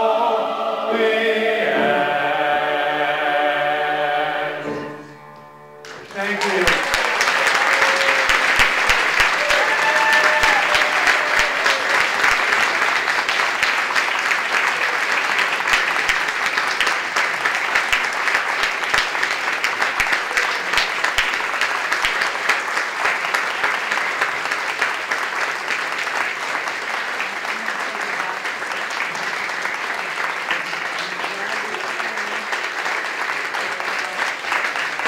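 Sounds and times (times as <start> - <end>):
crowd clapping: 5.8 - 35.0.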